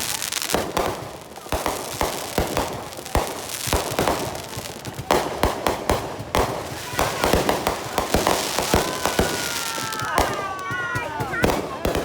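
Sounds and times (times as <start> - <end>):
fireworks bangs and pops: 0.0 - 12.0
fireworks crackling: 0.0 - 12.0.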